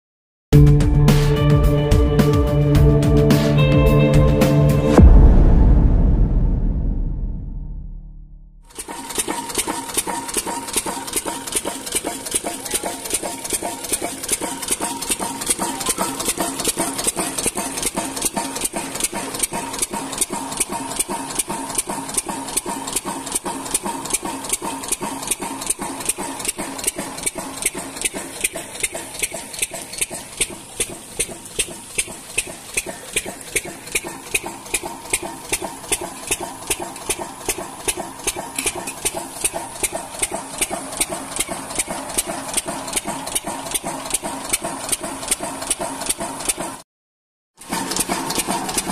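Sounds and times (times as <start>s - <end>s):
diesel engine knocking: 8.7s - 46.8s, 47.6s - 48.9s.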